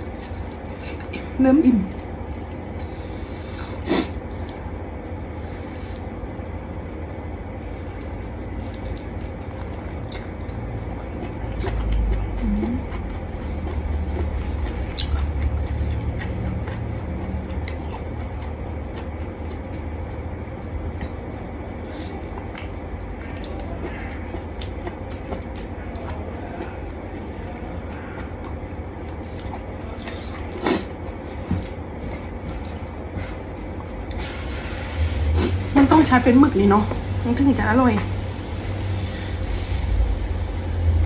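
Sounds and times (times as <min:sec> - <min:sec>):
person chewing food: 0:00.0 - 0:35.7, 0:37.9 - 0:41.0
low hum: 0:00.0 - 0:41.0.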